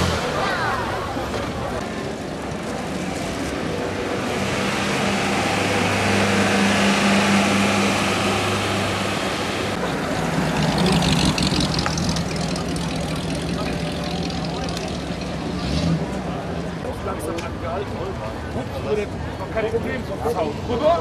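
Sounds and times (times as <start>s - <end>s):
car engines at low revs: 0.0s - 21.0s.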